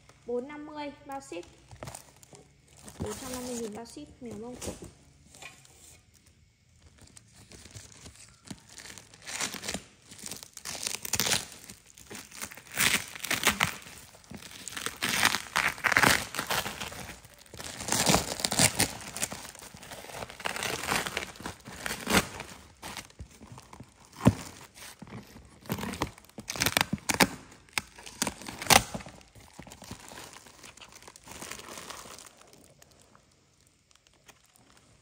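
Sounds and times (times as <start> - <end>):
plastic tape and sack tearing: 1.1 - 33.1.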